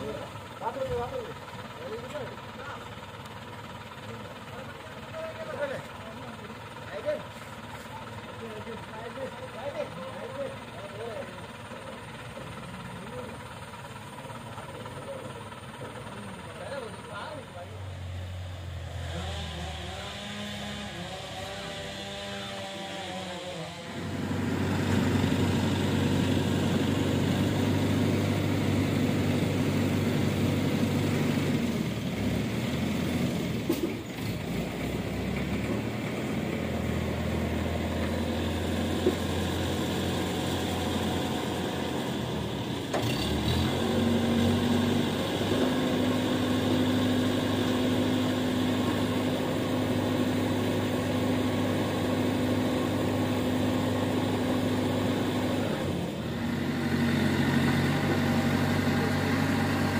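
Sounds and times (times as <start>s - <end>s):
heavy diesel crane engine: 0.0s - 59.9s.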